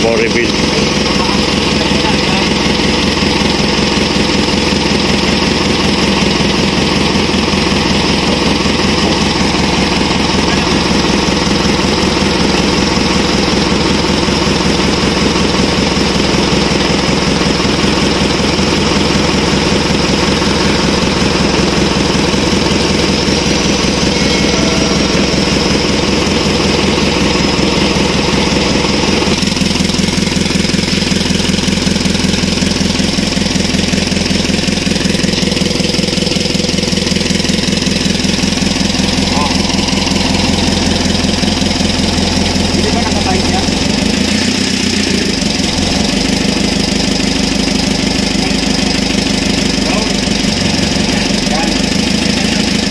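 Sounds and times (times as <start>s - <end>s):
diesel engine idling: 0.0s - 52.9s.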